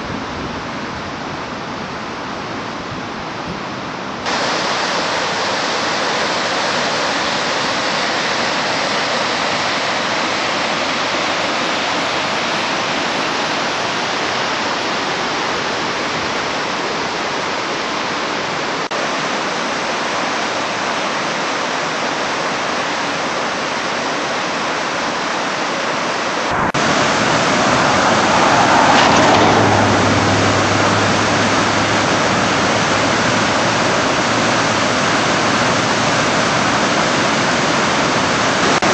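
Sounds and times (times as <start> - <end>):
flood water rushing: 0.0 - 38.9.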